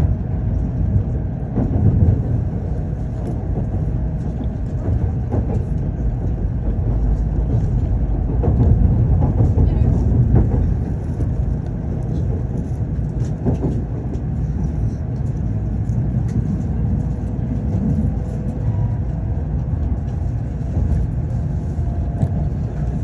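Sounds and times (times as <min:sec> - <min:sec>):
train rumbling inside passenger car: 0:00.0 - 0:23.0.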